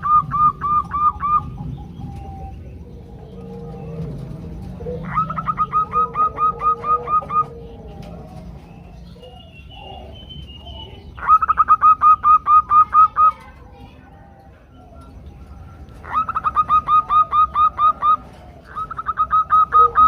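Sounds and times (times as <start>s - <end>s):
doves cooing: 0.0s - 20.0s.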